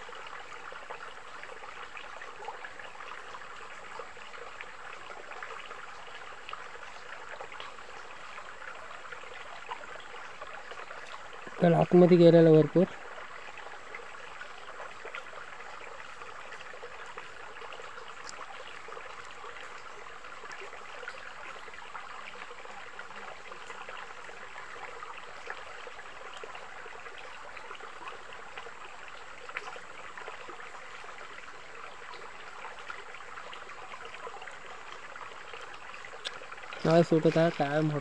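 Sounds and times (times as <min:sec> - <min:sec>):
stream flowing: 0:00.0 - 0:38.0.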